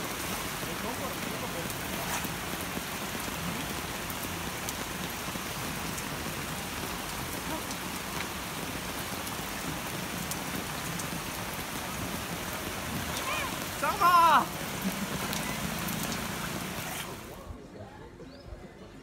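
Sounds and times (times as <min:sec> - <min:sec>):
rain falling on water and paving: 0:00.0 - 0:17.5.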